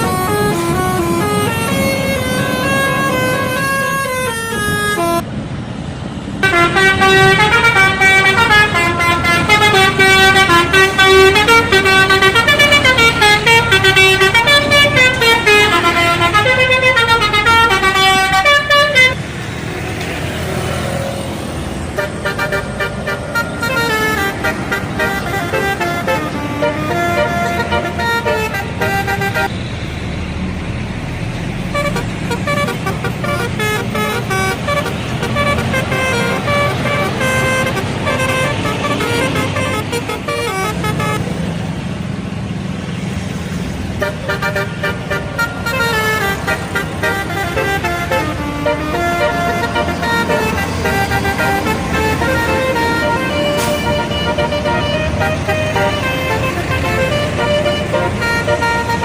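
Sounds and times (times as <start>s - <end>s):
musical air horn melody: 0.0s - 5.2s, 6.4s - 19.2s, 22.0s - 29.5s, 31.7s - 41.2s, 44.0s - 59.0s
rumble of engines and traffic: 0.0s - 59.0s.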